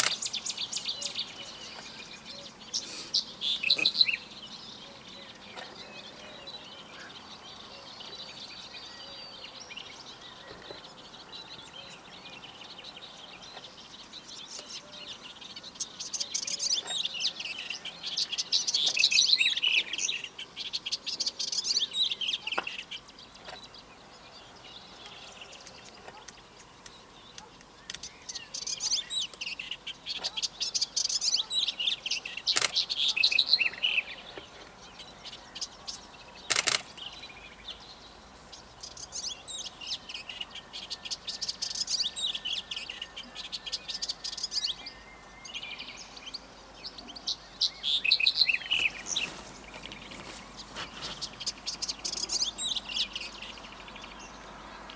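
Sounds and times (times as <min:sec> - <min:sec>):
bunting singing jingling song: 0:00.0 - 0:54.9.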